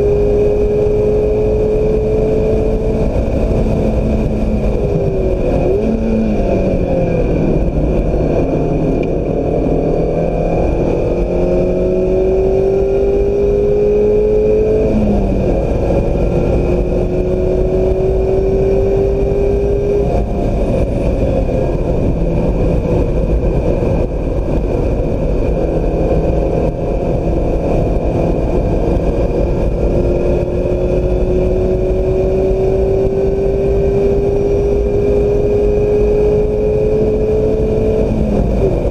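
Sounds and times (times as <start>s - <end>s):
car engine accelerating hard: 0.0s - 38.9s
road and wind noise: 0.0s - 38.9s.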